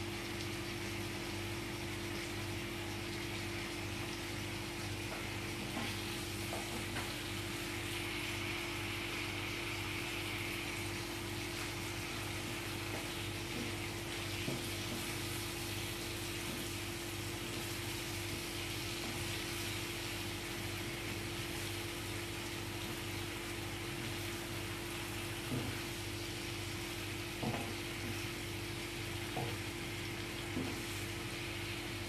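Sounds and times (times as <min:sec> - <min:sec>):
vegetables sizzling in a pan: 0:00.8 - 0:32.0.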